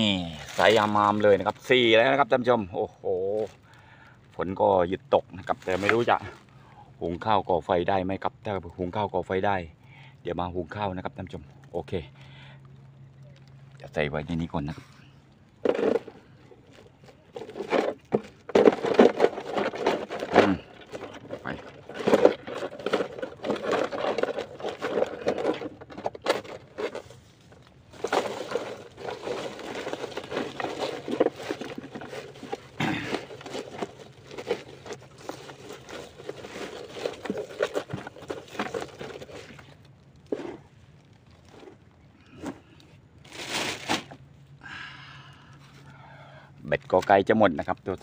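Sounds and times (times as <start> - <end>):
rustling and crinkling of a bag: 0.0 - 9.3, 10.6 - 44.6.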